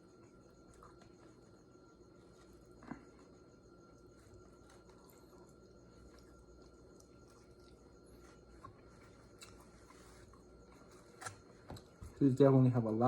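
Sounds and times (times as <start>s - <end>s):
wet chewing sounds: 0.1s - 12.2s.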